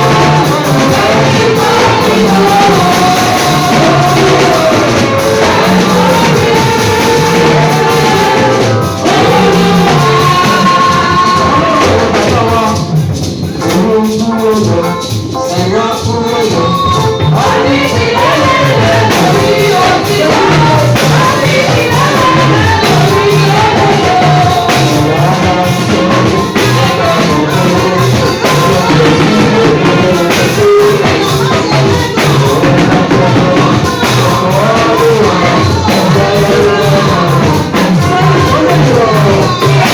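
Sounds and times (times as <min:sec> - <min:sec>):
worship singing with instruments: 0:00.0 - 0:39.9.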